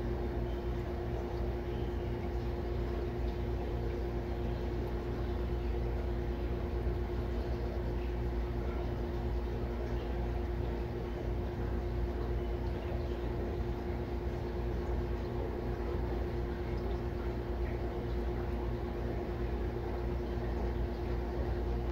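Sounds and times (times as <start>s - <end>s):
aquarium pump humming: 0.0s - 21.9s.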